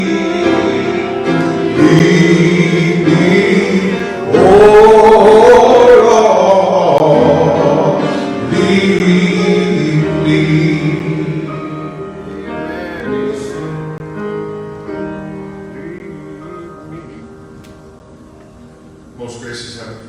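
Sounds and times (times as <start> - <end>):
gospel singing: 0.0 - 17.8
sustained instrumental chords: 0.0 - 19.2.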